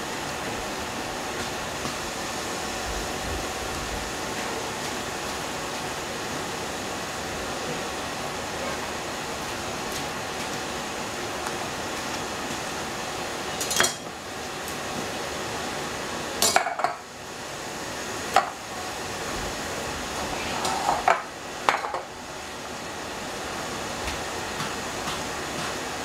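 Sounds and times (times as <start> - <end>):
steady background whir: 0.0 - 26.0.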